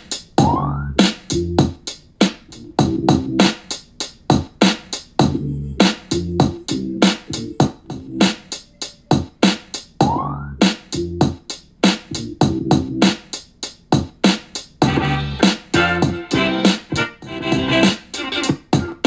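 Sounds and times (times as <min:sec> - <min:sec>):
electronic hip-hop beat: 0:00.0 - 0:03.8, 0:04.4 - 0:13.4, 0:14.0 - 0:19.0.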